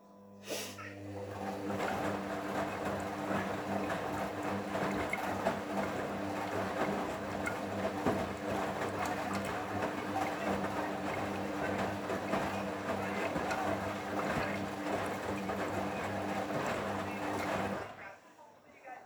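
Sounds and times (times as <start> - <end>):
washing machine motor hum: 0.8 - 18.2
laundry and water sloshing: 1.2 - 18.0.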